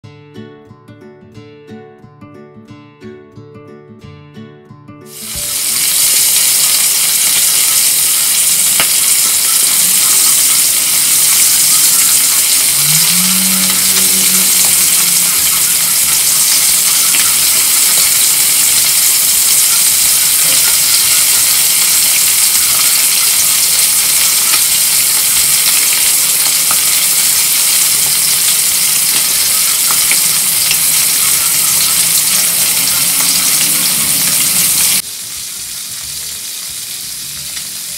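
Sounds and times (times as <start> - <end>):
fish sizzling in hot oil: 5.1 - 37.9.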